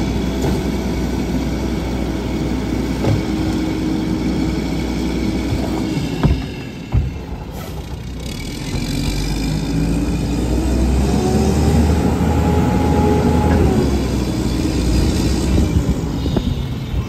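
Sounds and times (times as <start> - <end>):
garbage truck diesel engine accelerating: 0.0 - 17.0.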